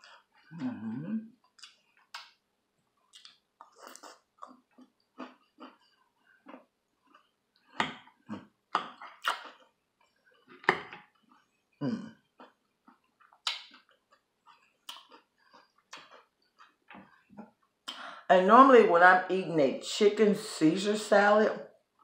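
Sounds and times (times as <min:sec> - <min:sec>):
person chewing crunchy food: 0:00.0 - 0:17.9.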